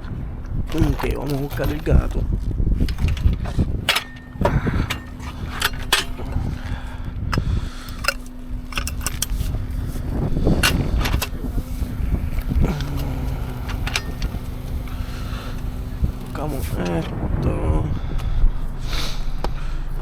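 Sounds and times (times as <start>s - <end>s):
steady low rumble: 0.0s - 20.0s
metal tools clinking and knocking: 0.7s - 17.2s.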